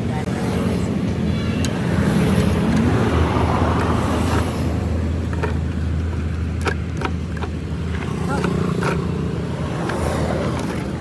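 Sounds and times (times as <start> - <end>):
passing traffic rush: 0.0 - 11.0
vehicle engine humming: 0.0 - 11.0.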